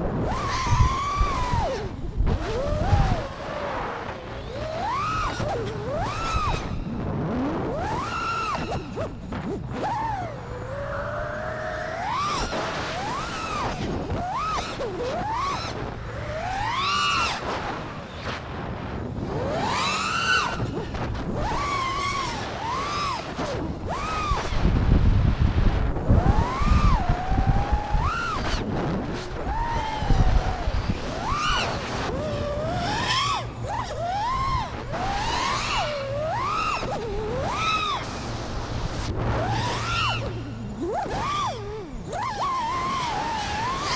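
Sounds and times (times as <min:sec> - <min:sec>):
drone motors whining: 0:00.0 - 0:43.9
wind rumble on microphone: 0:00.0 - 0:43.9.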